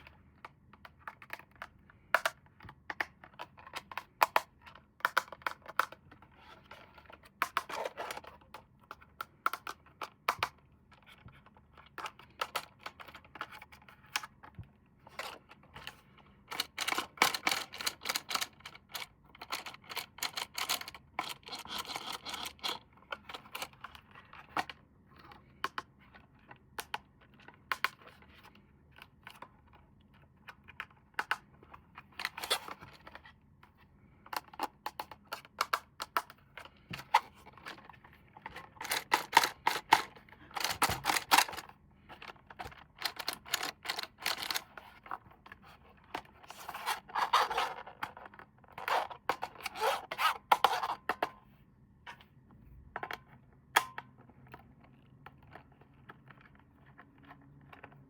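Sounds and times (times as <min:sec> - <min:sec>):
toy packaging rustling and clicking: 0:00.0 - 0:51.3, 0:53.0 - 0:58.0.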